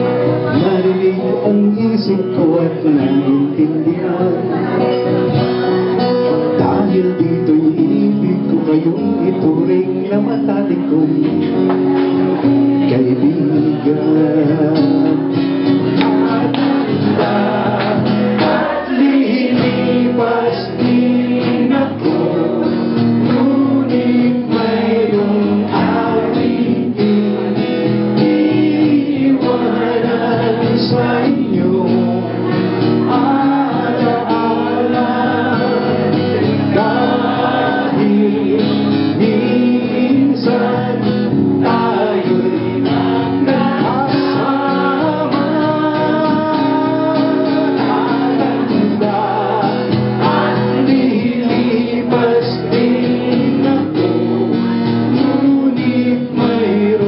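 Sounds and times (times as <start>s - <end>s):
acoustic guitar: 0.0s - 57.0s
man singing into a microphone: 0.0s - 57.0s.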